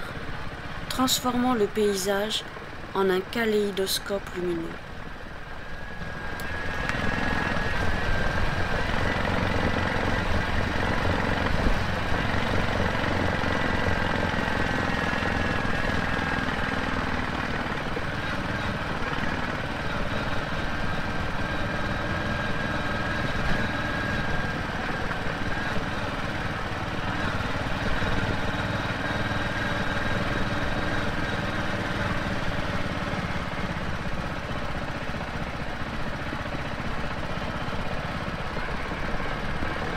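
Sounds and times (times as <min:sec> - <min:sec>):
road noise: 0:00.0 - 0:39.9
motorcycle engine running: 0:04.7 - 0:39.9.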